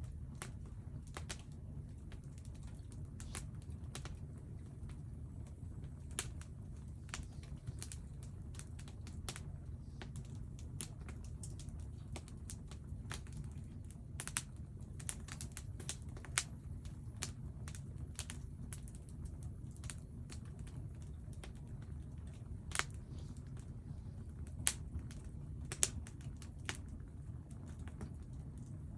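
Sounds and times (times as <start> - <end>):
firewood crackling: 0.0 - 28.9
steady low rumble: 0.0 - 28.9.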